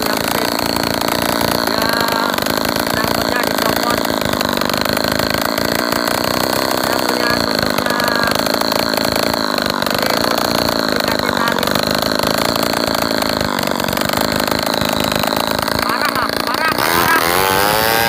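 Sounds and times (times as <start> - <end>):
brush cutter engine buzzing: 0.0 - 18.0.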